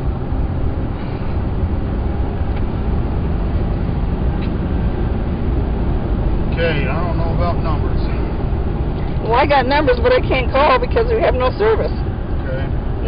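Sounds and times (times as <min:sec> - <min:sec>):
road and engine noise in vehicle: 0:00.0 - 0:13.0.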